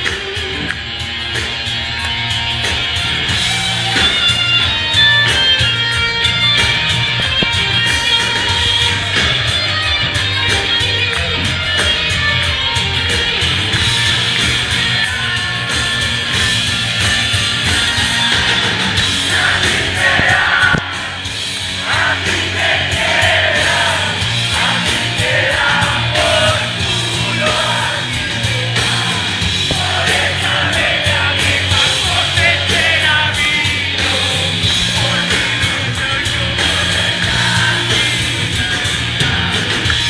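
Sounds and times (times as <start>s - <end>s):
electric guitar: 0.0s - 40.0s
live rock band playing: 0.0s - 40.0s.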